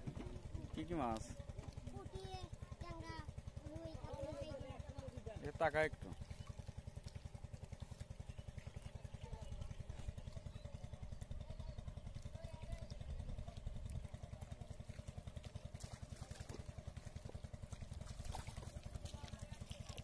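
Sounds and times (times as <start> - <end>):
small engine puttering: 0.0 - 20.0.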